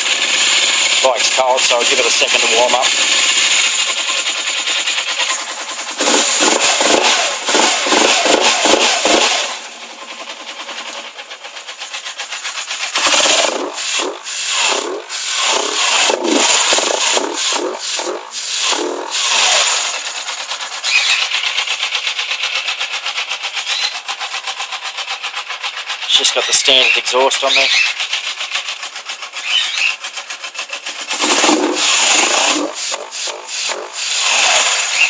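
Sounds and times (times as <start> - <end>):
motorcycle engine revving and idling: 0.0 - 35.0.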